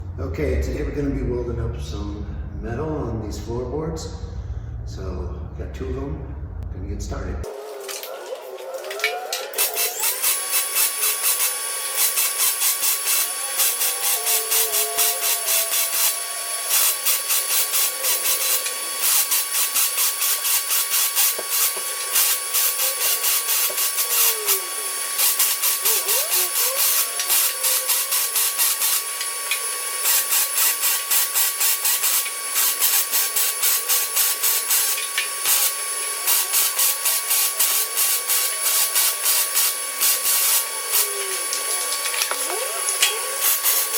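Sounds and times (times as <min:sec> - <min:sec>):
welding arc crackling: 0:07.4 - 0:43.9.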